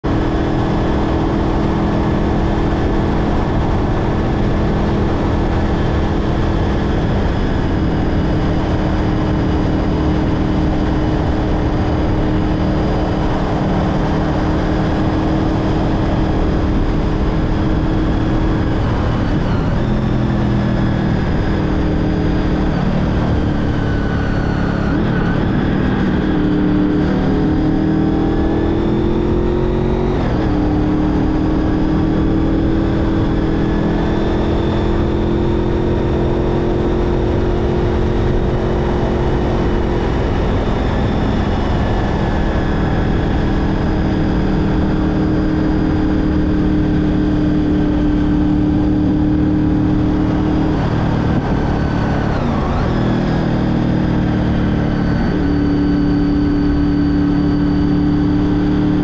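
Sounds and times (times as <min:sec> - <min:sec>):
motorcycle engine running: 0:00.0 - 0:59.0
wind rush: 0:00.0 - 0:59.0.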